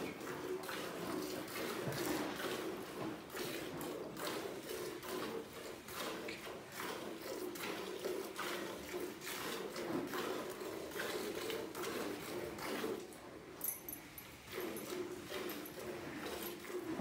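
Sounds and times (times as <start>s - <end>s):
milk squirting into pail: 0.0s - 13.2s, 14.5s - 17.0s.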